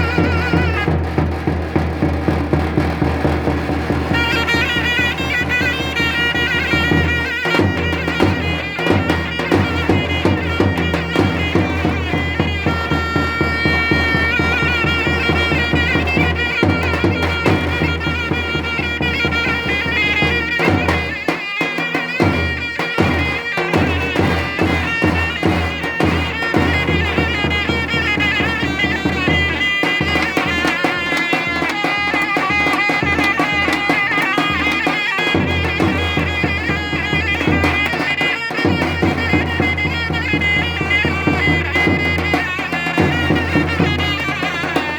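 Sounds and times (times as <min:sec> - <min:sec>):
large drum beat: 0:00.0 - 0:44.9
zurna double-reed melody: 0:00.0 - 0:44.9.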